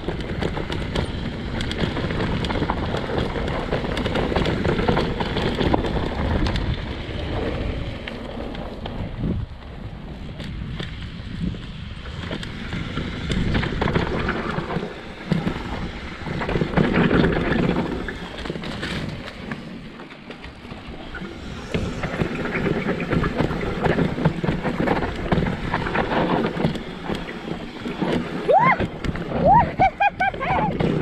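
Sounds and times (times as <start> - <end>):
bike clattering over bumps: 0.0 - 31.0
bike tyres rolling over ground: 0.0 - 31.0
wind buffeting microphone: 0.0 - 31.0.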